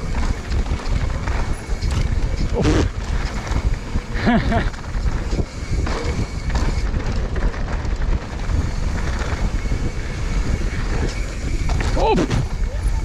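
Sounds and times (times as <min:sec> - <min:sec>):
bike knocking over bumps: 0:00.0 - 0:12.8
bike tyres rumbling on trail: 0:00.0 - 0:13.0
wind on microphone: 0:00.0 - 0:13.0.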